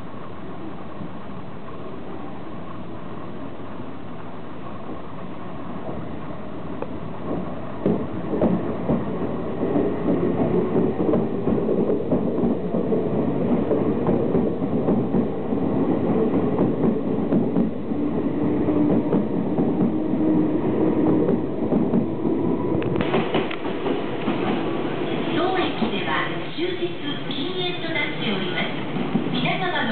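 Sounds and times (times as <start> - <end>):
electric train running past: 0.0 - 29.9
wheels clattering over rails: 4.1 - 29.9.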